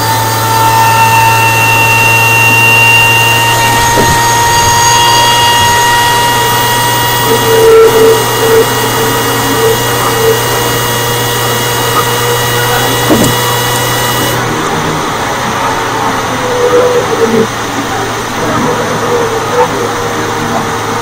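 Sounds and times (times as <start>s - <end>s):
engine intake rush: 0.0s - 21.0s
supercharger whine: 0.0s - 21.0s.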